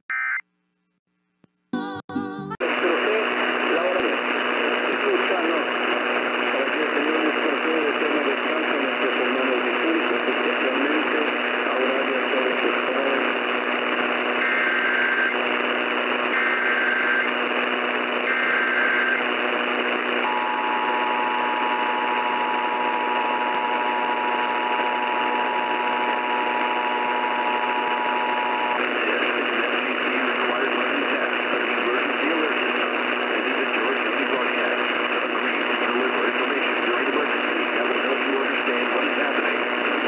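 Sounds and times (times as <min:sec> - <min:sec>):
radio static: 0:02.6 - 0:40.0.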